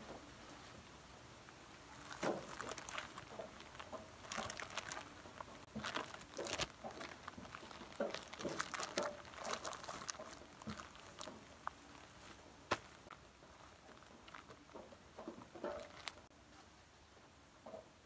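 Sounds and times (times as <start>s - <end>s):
bubble wrap crinkling: 1.8s - 16.3s.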